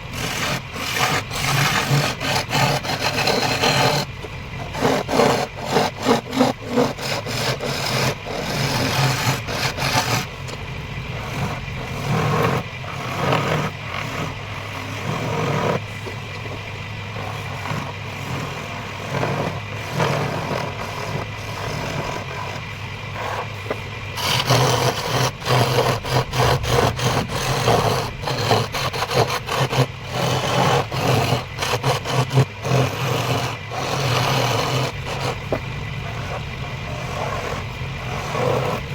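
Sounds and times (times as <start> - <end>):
chisel scraping spinning wood: 0.0 - 38.9
wood lathe motor hum: 0.0 - 38.9.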